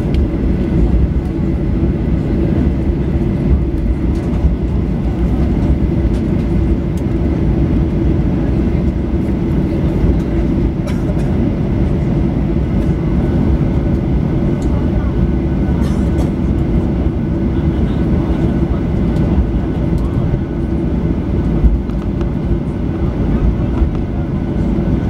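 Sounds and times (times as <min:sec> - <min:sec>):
airplane cabin rumble: 0:00.0 - 0:25.0
faint high engine whine: 0:00.0 - 0:25.0.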